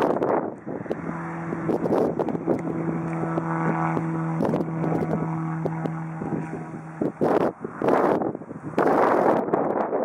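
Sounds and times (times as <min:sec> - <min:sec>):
light aircraft engine droning: 0:00.0 - 0:10.0
wind buffeting microphone: 0:00.0 - 0:10.0.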